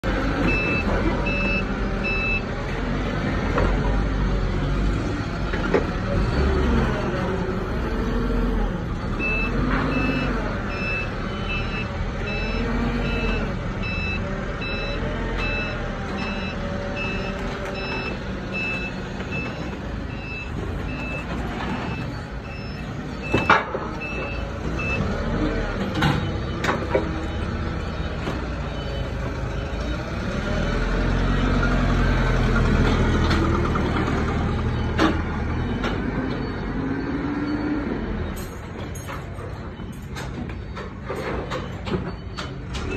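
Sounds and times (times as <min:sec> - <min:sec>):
forklift engine revving: 0:00.0 - 0:38.9
reversing alarm beeping: 0:00.4 - 0:02.5, 0:08.0 - 0:31.8, 0:34.1 - 0:42.9.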